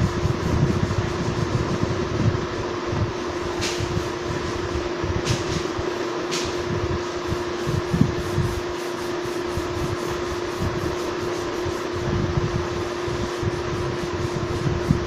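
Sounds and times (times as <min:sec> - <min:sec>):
duster wiping a chalkboard: 0:00.0 - 0:15.0.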